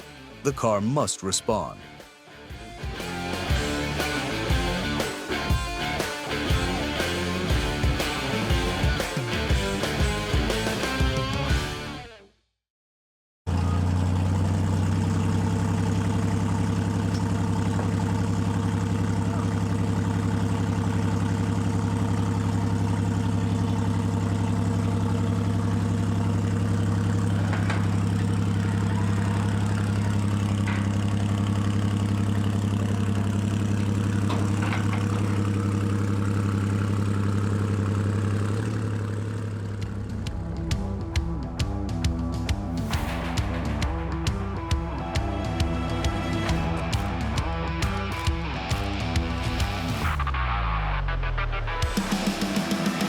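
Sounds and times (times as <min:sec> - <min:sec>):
race car engine idling: 0:02.8 - 0:11.8, 0:13.5 - 0:53.0.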